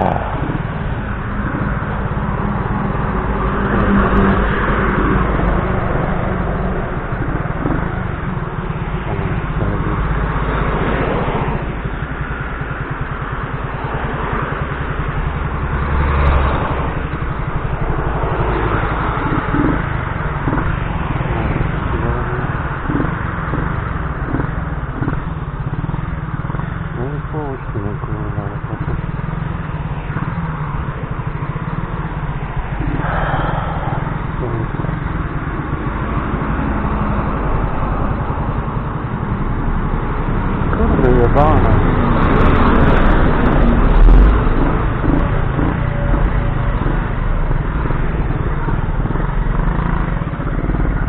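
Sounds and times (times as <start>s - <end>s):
moped engine running: 0.0s - 51.0s
steady rushing noise: 0.0s - 51.0s.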